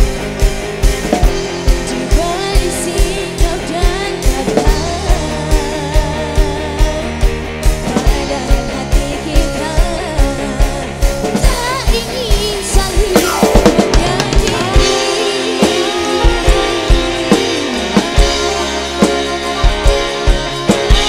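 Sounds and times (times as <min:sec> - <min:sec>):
bass: 0:00.0 - 0:21.0
electric guitars: 0:00.0 - 0:21.0
keyboard: 0:00.0 - 0:21.0
steady drum beat: 0:00.0 - 0:21.0
woman singing: 0:01.8 - 0:21.0.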